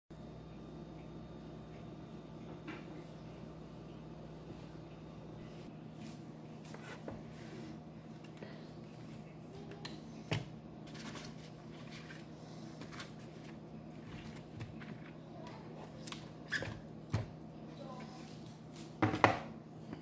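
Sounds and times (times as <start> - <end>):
steady low hum: 0.1 - 20.0.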